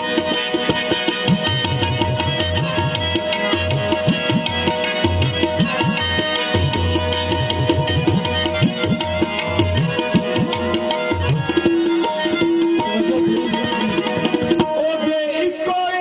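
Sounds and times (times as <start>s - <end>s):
tabla drumming: 0.0s - 16.0s.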